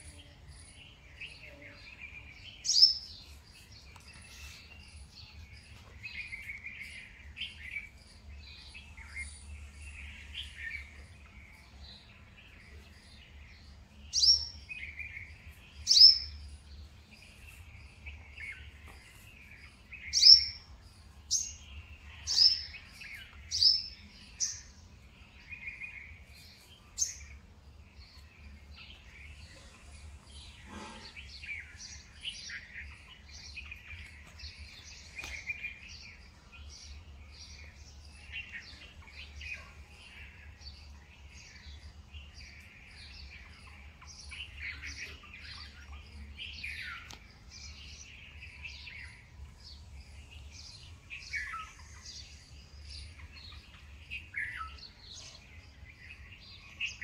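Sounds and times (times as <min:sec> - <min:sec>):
garden birds chirping: 0:00.0 - 0:57.0.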